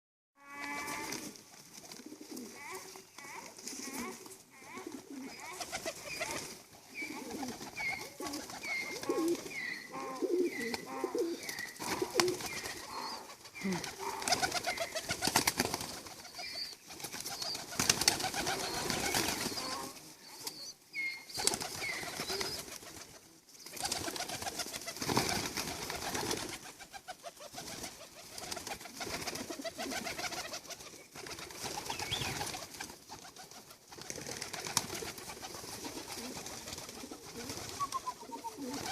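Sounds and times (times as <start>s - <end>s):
pigeons cooing: 2.0s - 23.0s, 23.8s - 38.9s.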